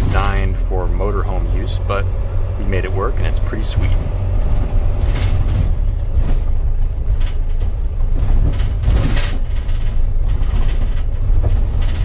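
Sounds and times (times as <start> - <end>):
diesel bus engine rumble: 0.0 - 12.0
brief rattles: 2.2 - 12.0.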